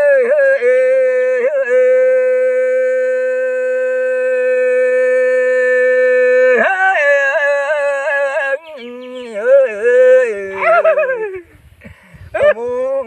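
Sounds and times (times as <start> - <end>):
man singing: 0.0 - 11.4, 12.3 - 13.0.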